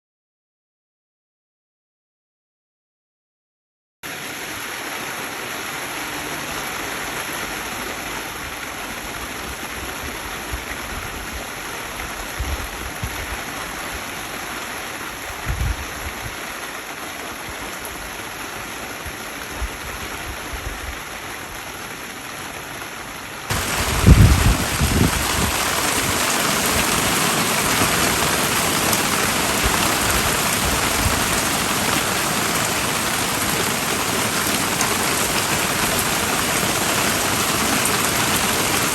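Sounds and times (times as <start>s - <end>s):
heavy rain: 4.0s - 38.9s.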